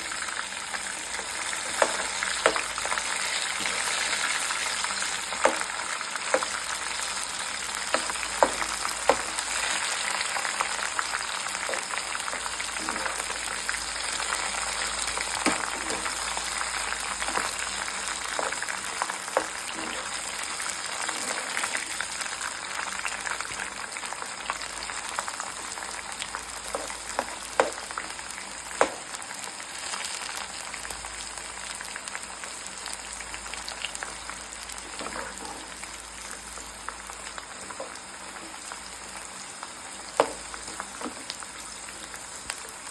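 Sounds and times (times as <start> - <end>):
deep-frying sizzle: 0.0 - 42.9.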